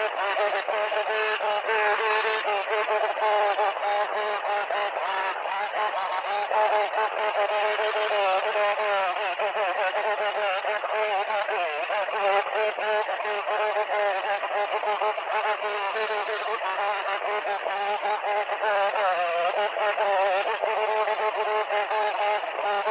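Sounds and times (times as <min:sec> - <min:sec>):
chainsaw engine revving: 0:00.0 - 0:22.9.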